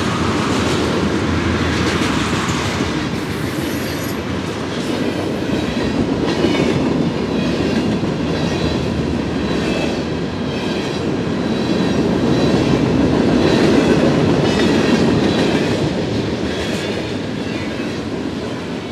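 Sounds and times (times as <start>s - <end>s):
freight train wheels rumbling: 0.0s - 18.9s.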